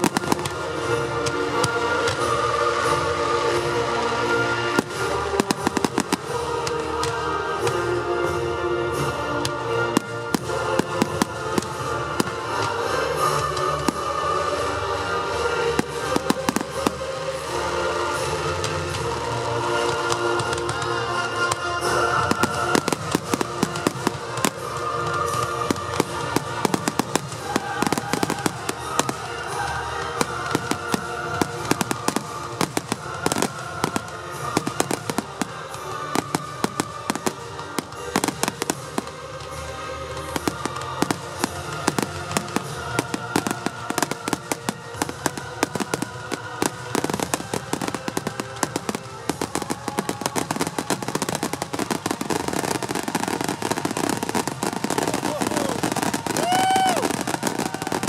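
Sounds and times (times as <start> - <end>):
fireworks bangs and crackles: 0.0 - 58.0
music playing: 0.0 - 58.0.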